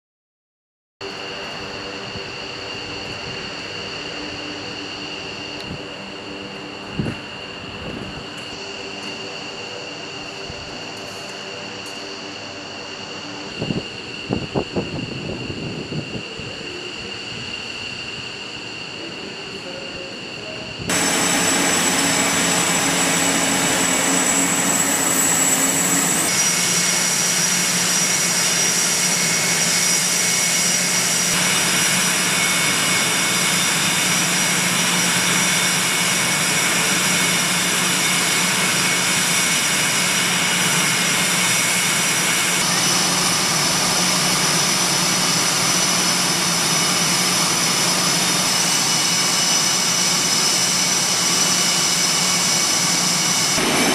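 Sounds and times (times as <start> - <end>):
jet engines whining: 1.0 - 53.9.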